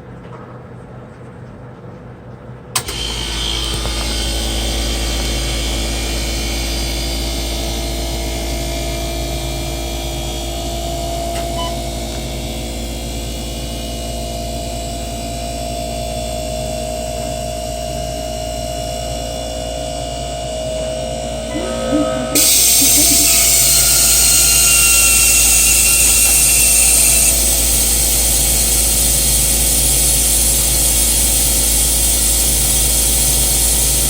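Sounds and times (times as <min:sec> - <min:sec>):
compressor running with deep hum: 0:01.0 - 0:34.0.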